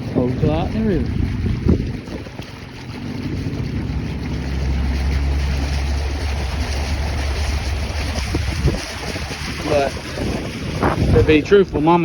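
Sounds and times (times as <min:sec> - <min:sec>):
outboard motor humming: 0:00.0 - 0:12.0
water noise: 0:00.0 - 0:12.0
wind: 0:00.0 - 0:12.0.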